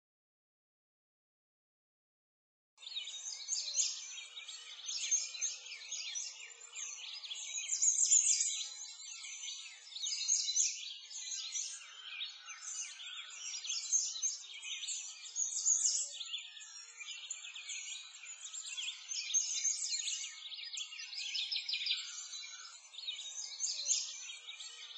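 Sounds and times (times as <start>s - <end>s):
small birds chirping: 2.8s - 24.9s.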